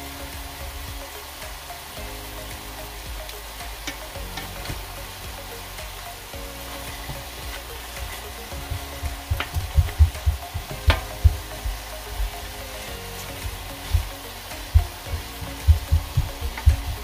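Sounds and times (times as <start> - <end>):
chicken sizzling in a pot: 0.1 - 17.0.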